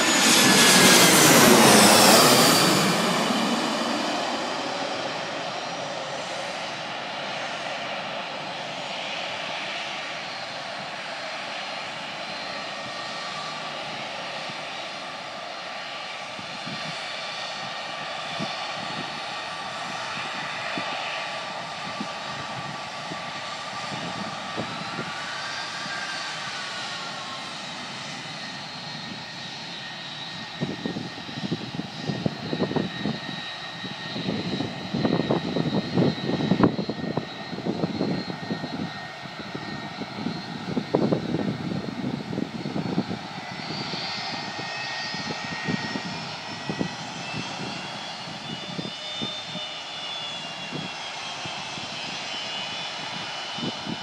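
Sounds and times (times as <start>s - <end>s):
jet engine turbine whine: 0.0s - 54.0s.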